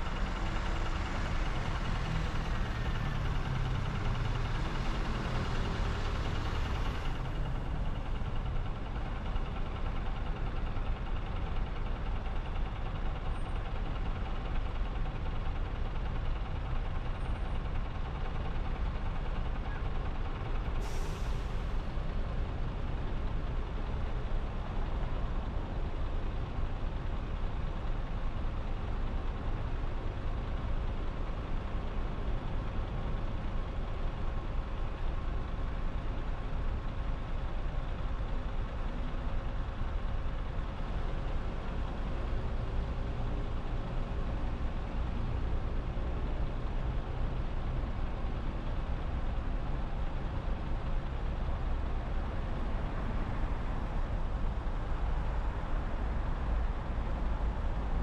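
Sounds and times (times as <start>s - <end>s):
bus engine running: 0.0s - 58.0s
engines idling: 0.0s - 58.0s.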